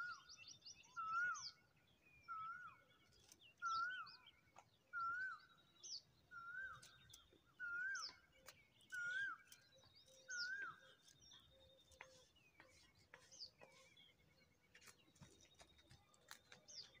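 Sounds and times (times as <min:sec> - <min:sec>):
faint high bird chirps: 0:00.0 - 0:17.0.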